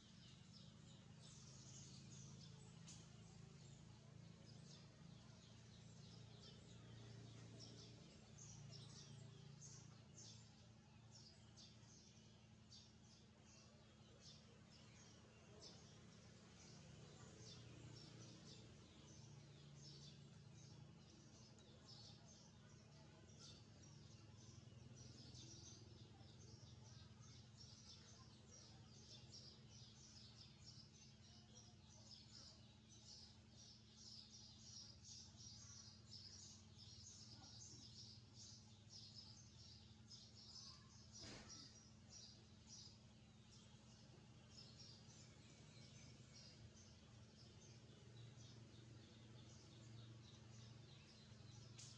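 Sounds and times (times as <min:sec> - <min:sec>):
young birds chirping: 0:00.0 - 0:51.9.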